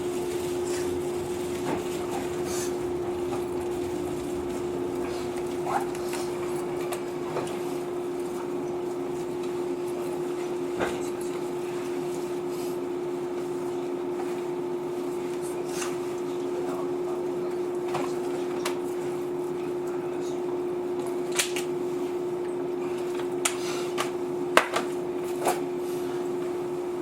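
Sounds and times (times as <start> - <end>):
electric train equipment hum: 0.0 - 27.0.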